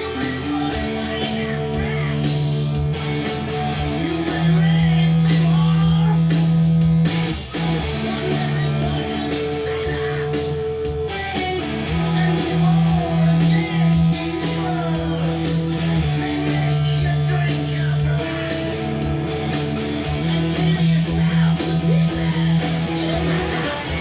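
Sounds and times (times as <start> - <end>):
electric mandola rock riff: 0.0 - 24.0.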